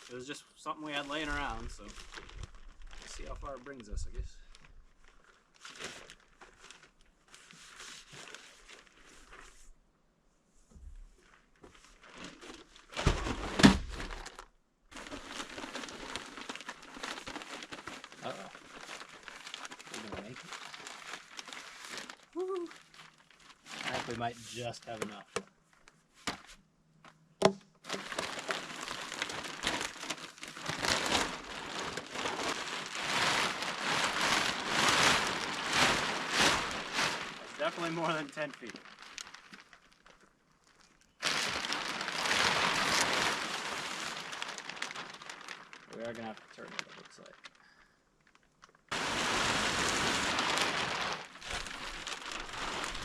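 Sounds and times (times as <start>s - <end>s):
plastic sheeting crinkling: 0.0s - 9.8s, 11.0s - 27.2s, 27.8s - 53.0s.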